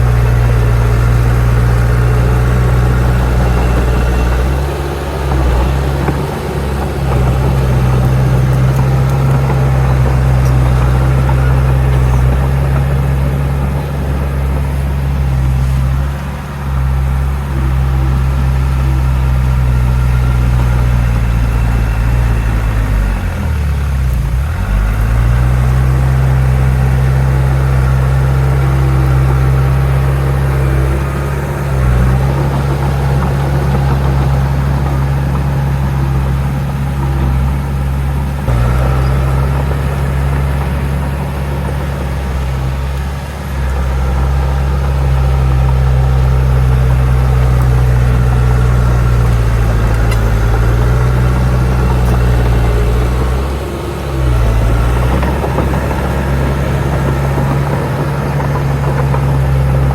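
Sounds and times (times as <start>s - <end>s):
diesel engine droning under load: 0.0s - 59.9s.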